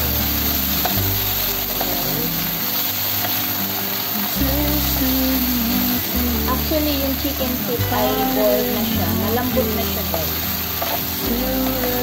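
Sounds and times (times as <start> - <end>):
background music with bass notes: 0.0 - 12.0
food frying in a pan: 0.0 - 12.0.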